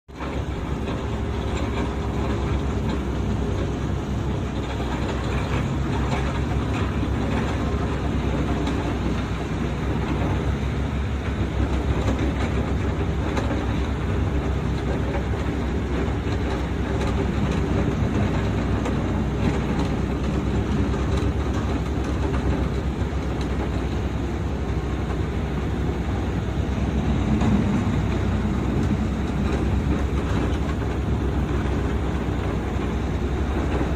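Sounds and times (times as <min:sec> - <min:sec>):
diesel engine droning: 0:00.1 - 0:33.9.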